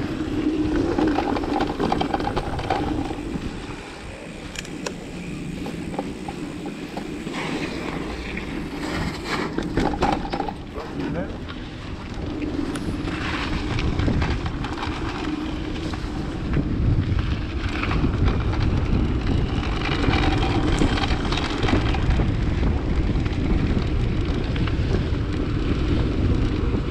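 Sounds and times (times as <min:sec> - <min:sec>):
bike rolling on dirt trail: 0:00.0 - 0:26.9
wind buffeting microphone: 0:00.0 - 0:26.9.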